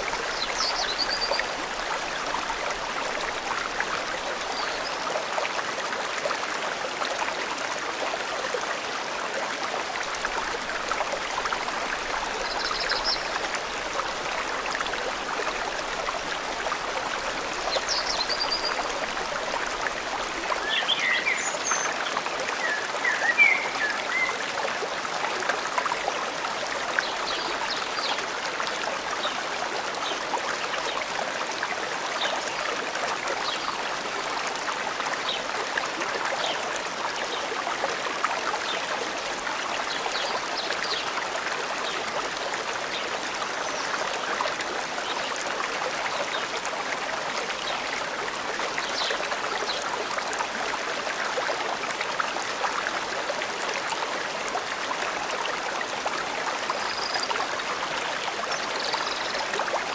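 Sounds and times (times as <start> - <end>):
forest stream rushing and trickling: 0.0 - 59.9.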